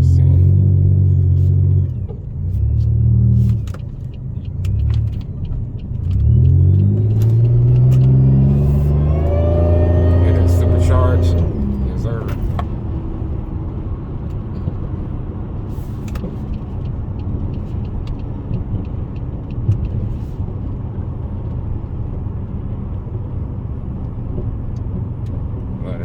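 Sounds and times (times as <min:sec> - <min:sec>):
car engine and road noise rumble: 0:00.0 - 0:26.0.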